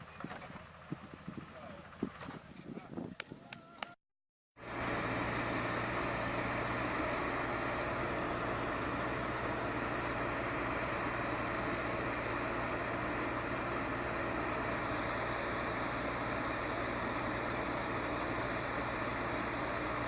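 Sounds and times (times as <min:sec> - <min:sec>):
heavy vehicle engine humming: 0:00.0 - 0:02.2, 0:04.6 - 0:20.0.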